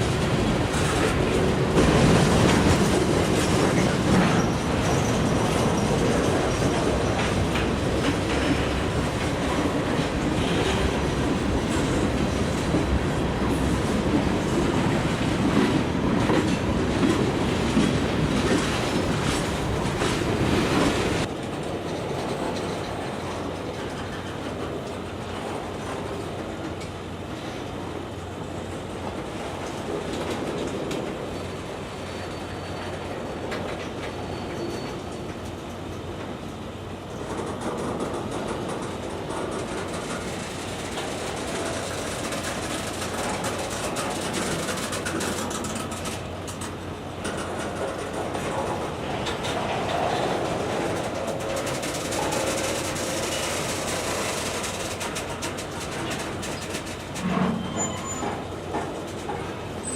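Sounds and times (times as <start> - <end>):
freight train rolling: 0.0 - 59.9
wheels clicking over rail joints: 0.0 - 59.9.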